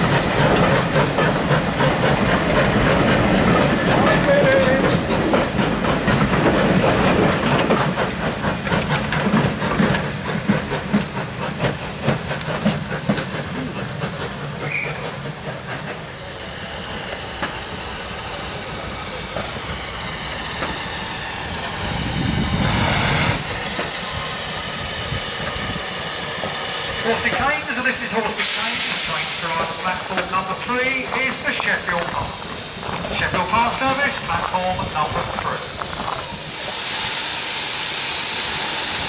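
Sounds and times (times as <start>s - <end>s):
steam locomotive hissing: 0.0s - 39.0s
train wheels clattering over rail joints: 0.0s - 39.0s.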